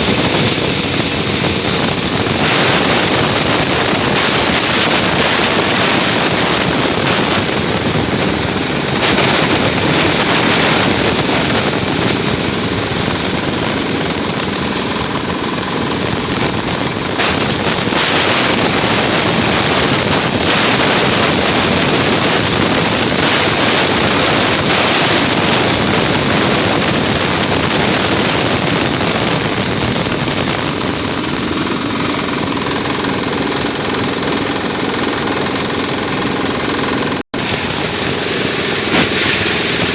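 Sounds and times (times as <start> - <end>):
chaff cutter running: 0.0 - 39.9
diesel engine running: 0.0 - 39.9.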